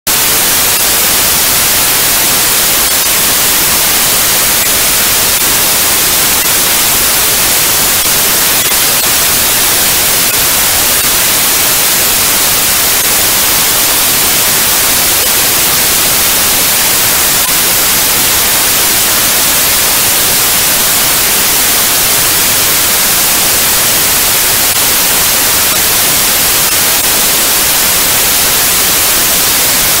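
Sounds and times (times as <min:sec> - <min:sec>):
white noise hiss: 0:00.1 - 0:30.0.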